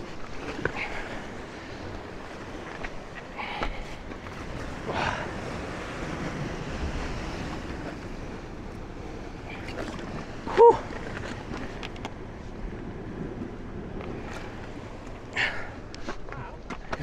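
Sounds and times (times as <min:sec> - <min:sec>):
waves breaking on rocks: 0:00.0 - 0:17.0.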